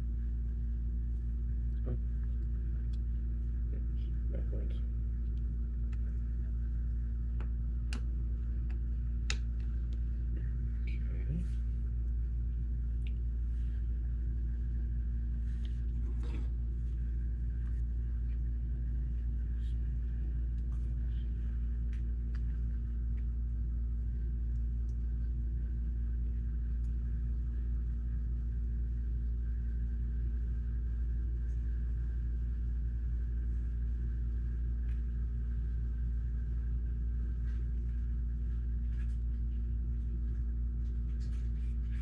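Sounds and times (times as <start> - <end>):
deep machine rumble and hum: 0.0 - 42.0.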